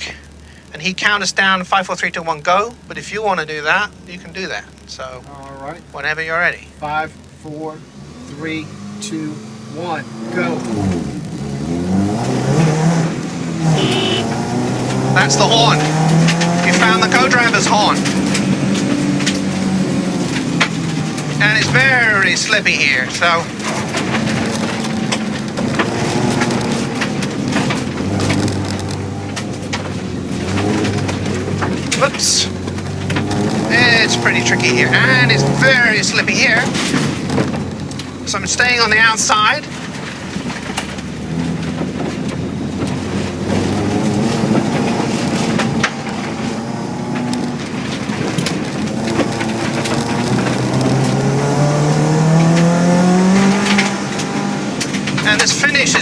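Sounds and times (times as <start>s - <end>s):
car engine under load: 0.0s - 56.0s
gravel pelting car underbody: 9.9s - 56.0s.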